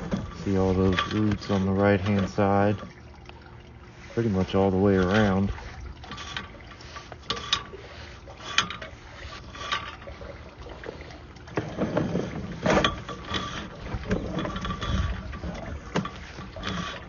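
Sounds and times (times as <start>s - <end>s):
cable scraping and knocking in pipe: 0.0s - 3.0s, 3.9s - 17.0s.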